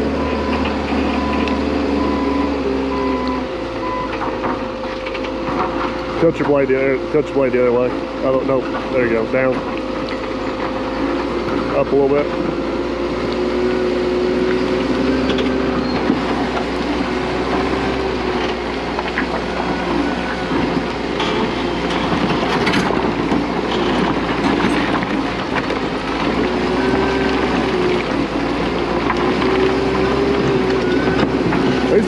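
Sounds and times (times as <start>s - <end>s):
diesel engine humming: 0.0s - 32.0s
steel tracks clanking: 0.0s - 32.0s.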